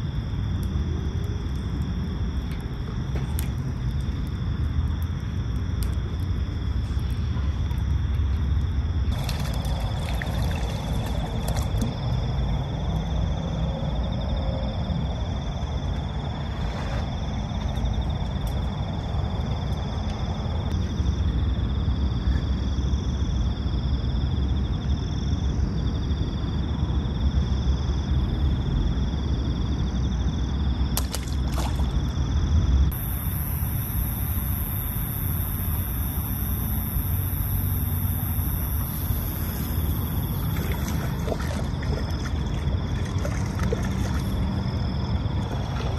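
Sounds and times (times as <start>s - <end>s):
night insects trilling: 0.0s - 45.9s.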